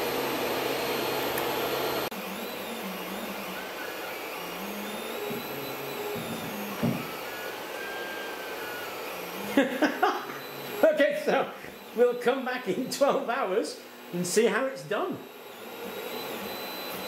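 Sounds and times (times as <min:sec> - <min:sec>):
printer fan noise: 0:00.0 - 0:17.0
stepper motors whining: 0:00.0 - 0:17.0.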